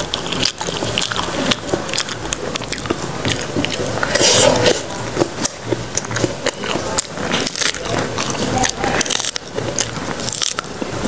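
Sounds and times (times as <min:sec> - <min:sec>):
biting and chewing: 0:00.0 - 0:11.0.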